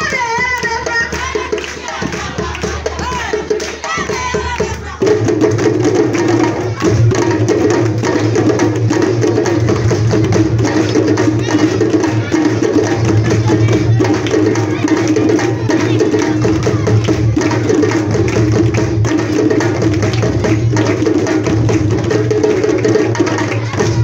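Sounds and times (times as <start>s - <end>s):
djembe drums playing: 0.0s - 24.0s.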